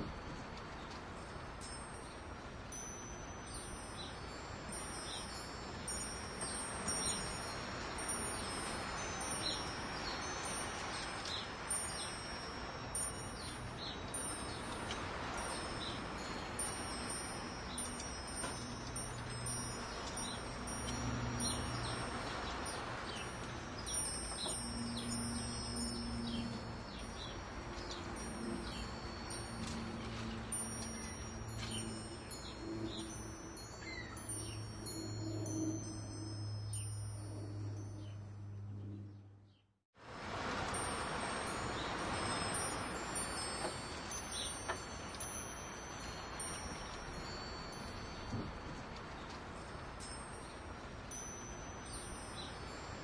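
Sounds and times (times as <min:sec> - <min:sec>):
wind chimes ringing: 0:00.0 - 0:39.2, 0:40.0 - 0:53.0.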